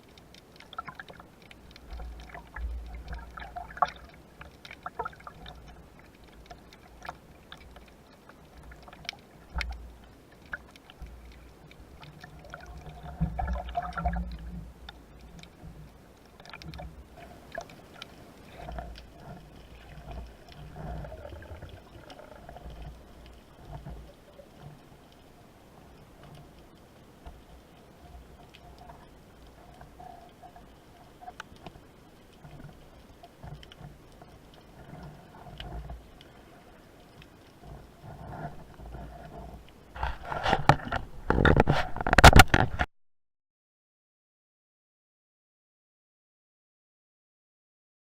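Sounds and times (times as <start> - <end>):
water sloshing and gurgling: 0.0 - 42.9.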